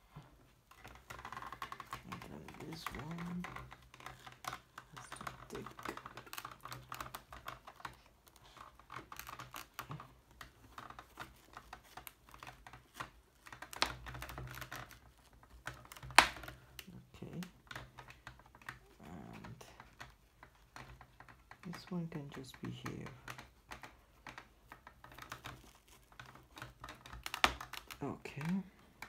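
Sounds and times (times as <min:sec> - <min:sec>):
small clicks taps and rustles: 0:00.0 - 0:29.0.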